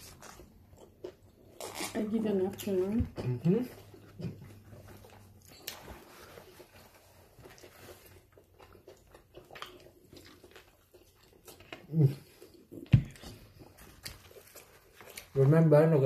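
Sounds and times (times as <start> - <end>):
soft chewing mouth sounds: 0.0 - 1.9, 2.5 - 15.6.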